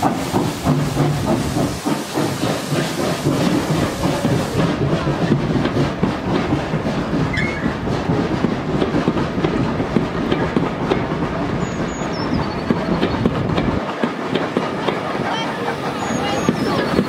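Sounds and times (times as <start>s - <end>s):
train wheels clicking on rail joints: 0.0s - 17.0s.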